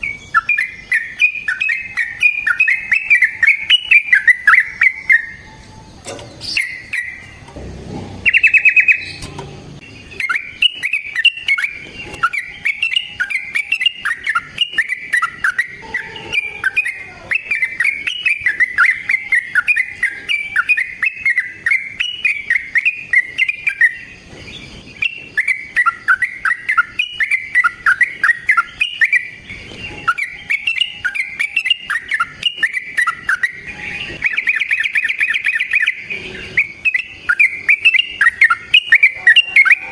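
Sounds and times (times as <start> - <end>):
bird singing chattering chirps: 0.0 - 39.9.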